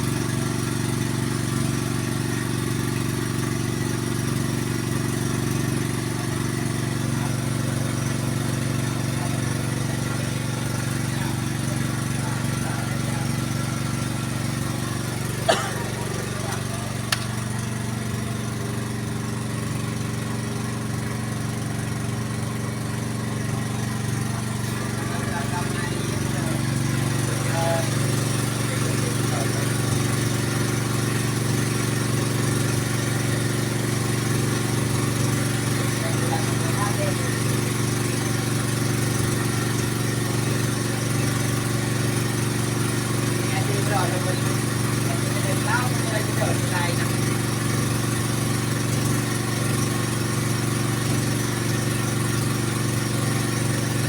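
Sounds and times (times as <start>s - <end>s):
drilling machine engine running: 0.0s - 54.0s.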